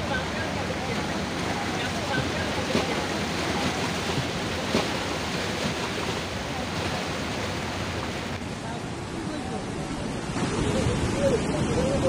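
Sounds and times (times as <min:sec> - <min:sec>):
seawater rushing and churning: 0:00.0 - 0:12.0.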